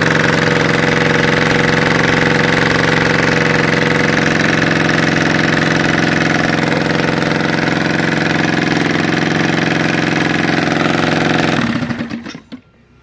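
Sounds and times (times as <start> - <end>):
engine running loudly: 0.0 - 12.4.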